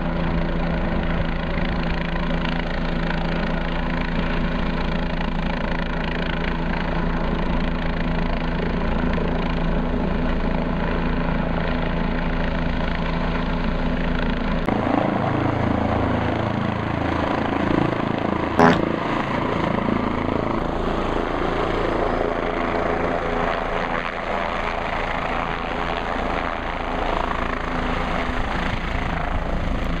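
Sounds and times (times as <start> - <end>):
helicopter hovering: 0.0 - 30.0.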